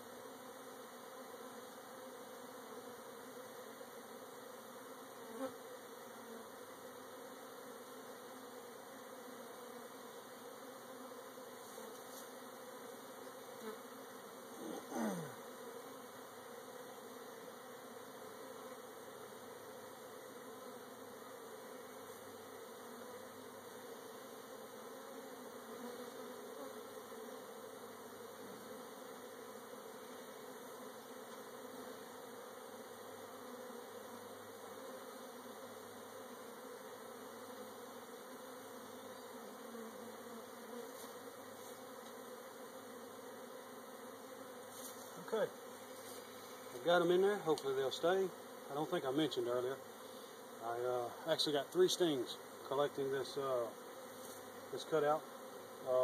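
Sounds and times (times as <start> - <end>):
honey bees buzzing: 0.0 - 56.0.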